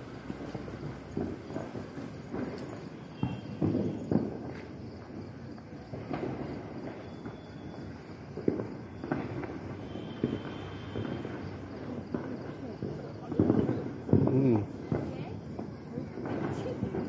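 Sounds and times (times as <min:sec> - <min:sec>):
distant firecrackers: 0:00.0 - 0:17.0.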